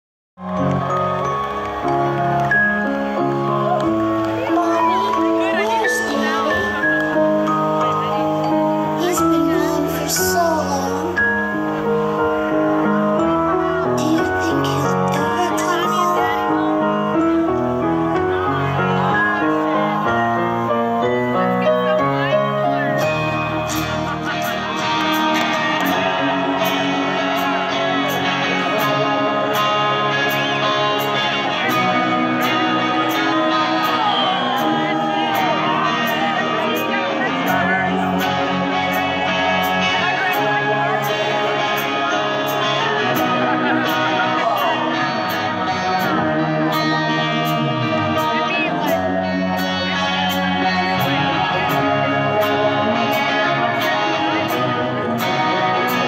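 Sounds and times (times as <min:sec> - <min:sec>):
bass guitar: 0:00.4 - 0:56.0
electric guitar: 0:00.4 - 0:56.0
live rock band playing: 0:00.4 - 0:56.0.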